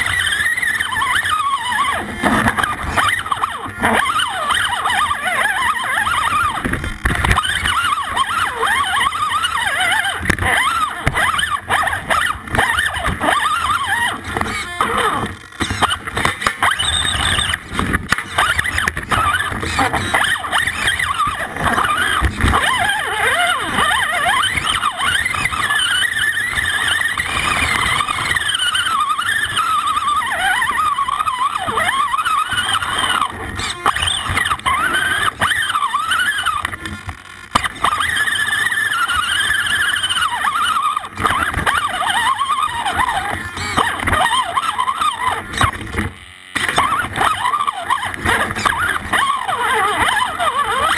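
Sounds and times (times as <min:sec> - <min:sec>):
electric motor and gears whining: 0:00.0 - 0:50.9
tyres scraping against rock: 0:00.0 - 0:50.9.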